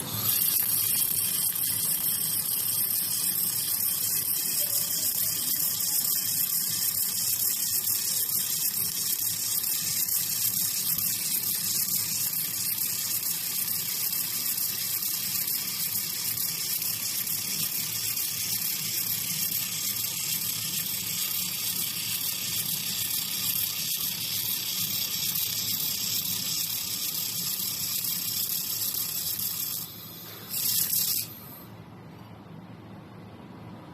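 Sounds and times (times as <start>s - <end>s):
laser welder hissing and humming: 0.0s - 31.8s.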